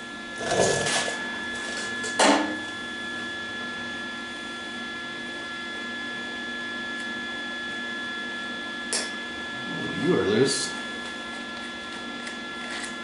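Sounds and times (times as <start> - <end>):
welder electrical hum: 0.0 - 13.0.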